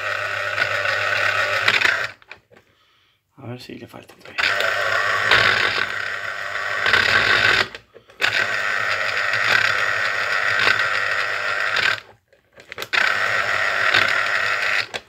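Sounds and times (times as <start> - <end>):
citrus juicer motor running: 0.0 - 2.5, 4.3 - 15.0.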